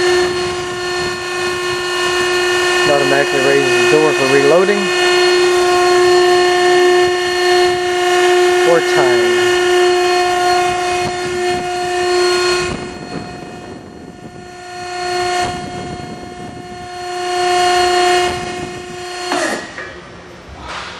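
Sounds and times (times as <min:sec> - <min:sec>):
hydraulic pump whine: 0:00.0 - 0:20.9.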